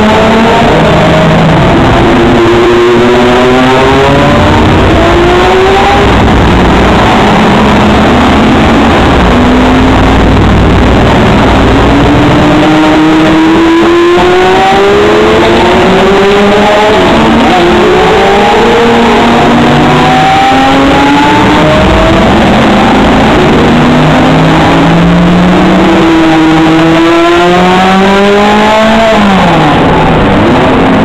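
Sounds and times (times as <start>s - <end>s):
racing car engines revving: 0.0s - 31.0s.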